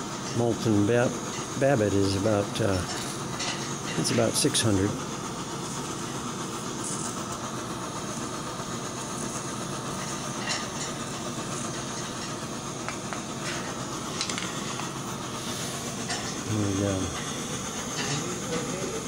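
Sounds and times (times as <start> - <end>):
burner flame hissing: 0.0 - 19.0.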